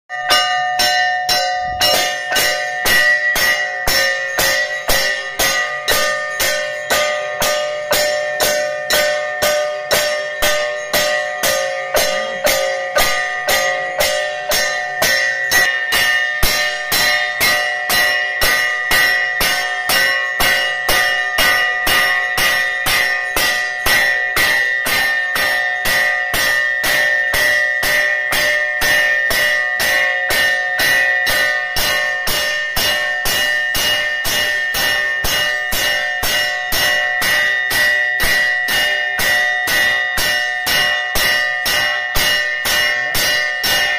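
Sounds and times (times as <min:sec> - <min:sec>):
bells ringing rapidly: 0:00.1 - 0:43.9.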